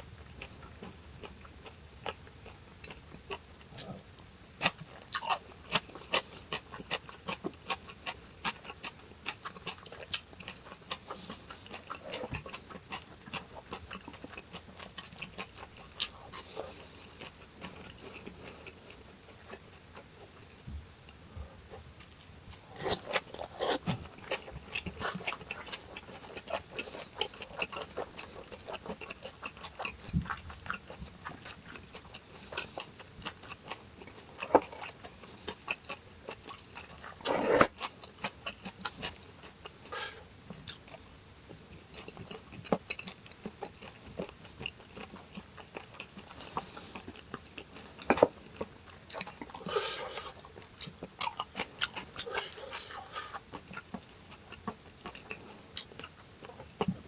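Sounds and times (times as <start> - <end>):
close chewing and crunching: 0.2 - 20.5, 21.1 - 57.0.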